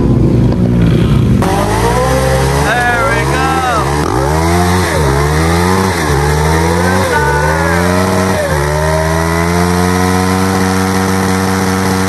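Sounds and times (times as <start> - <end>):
two-stroke dirt bike accelerating: 0.0 - 12.0.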